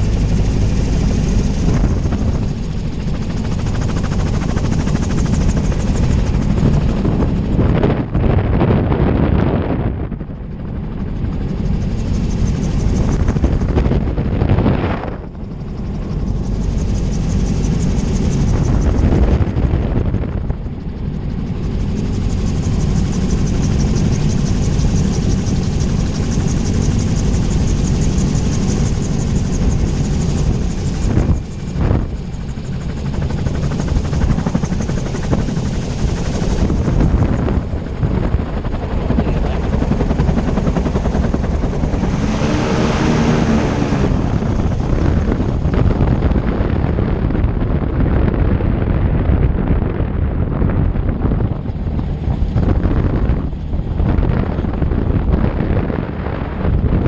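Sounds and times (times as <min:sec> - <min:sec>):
wavering whine: 0:00.0 - 0:47.6
wind and rotor noise: 0:00.0 - 0:57.0.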